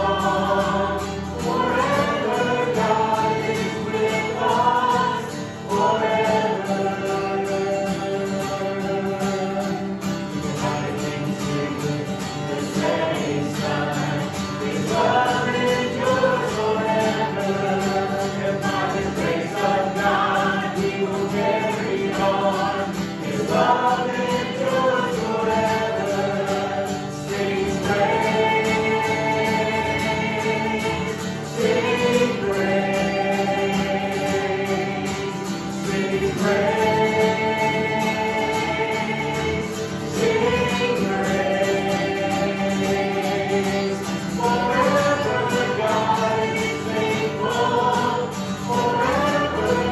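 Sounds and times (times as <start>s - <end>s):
voices singing a worship song: 0.0s - 49.9s.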